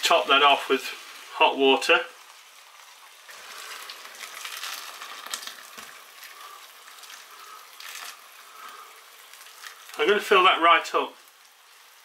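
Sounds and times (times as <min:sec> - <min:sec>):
water pouring into a pot: 0:00.0 - 0:12.0.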